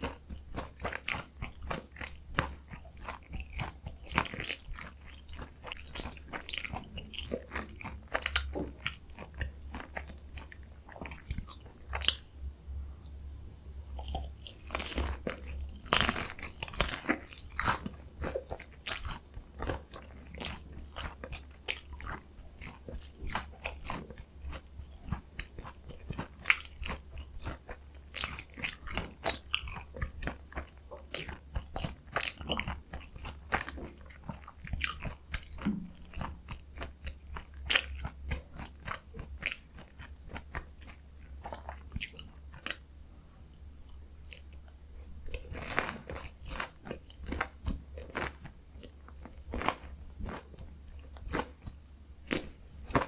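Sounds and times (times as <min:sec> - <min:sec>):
crunching and chewing food: 0:00.0 - 0:53.0.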